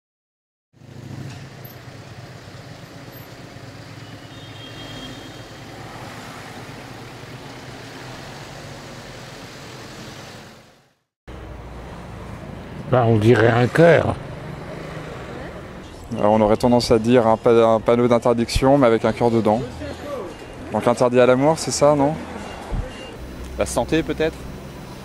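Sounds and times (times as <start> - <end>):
street traffic rumble: 0.8 - 25.0.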